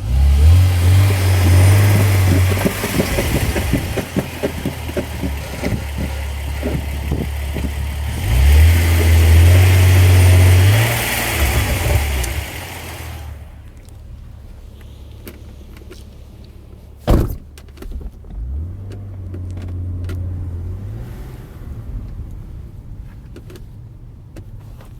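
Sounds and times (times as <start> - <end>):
car engine running: 0.0 - 24.9.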